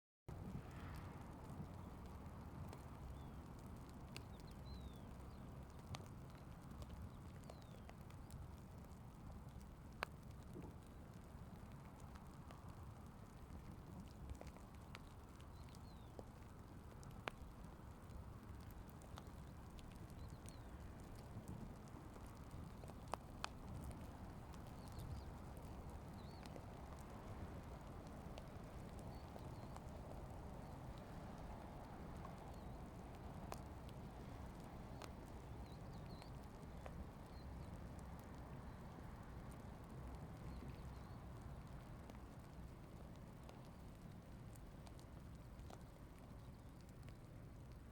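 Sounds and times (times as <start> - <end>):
faint low rumble: 0.3 - 47.9
raindrops ticking: 0.4 - 47.9.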